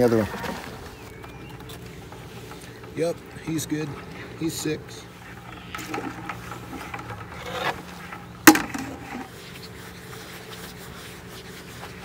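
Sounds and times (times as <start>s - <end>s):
scraping and rustling handling: 0.0s - 12.0s.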